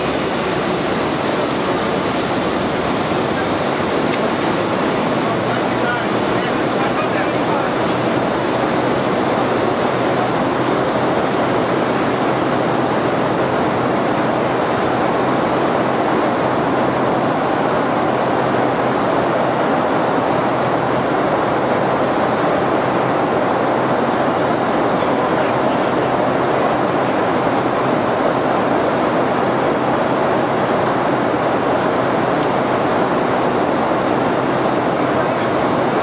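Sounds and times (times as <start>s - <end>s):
aircraft cabin engine and airflow: 0.0s - 36.0s.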